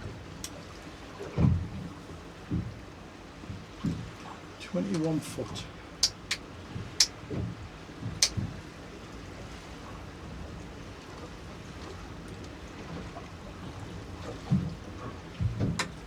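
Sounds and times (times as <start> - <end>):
sea washing against boat hull: 0.0 - 10.1, 11.0 - 16.0.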